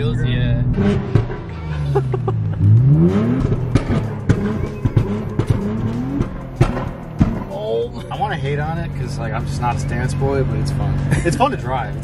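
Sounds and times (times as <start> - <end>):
car engine revving: 0.0 - 12.0
exhaust pops and crackles: 0.6 - 12.0.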